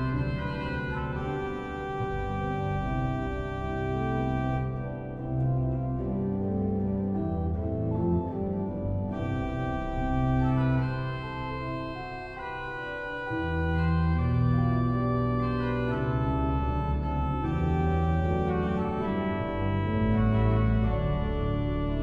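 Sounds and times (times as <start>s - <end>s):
pipe organ playing chords: 0.0s - 22.0s.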